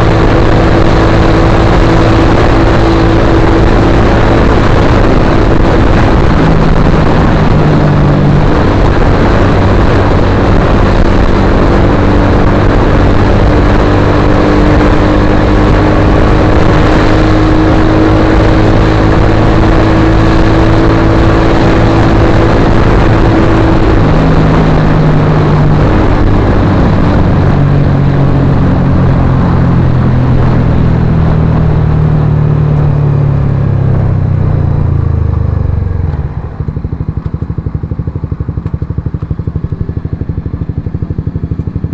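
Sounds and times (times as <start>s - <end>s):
motorcycle engine running loud: 0.0s - 41.9s.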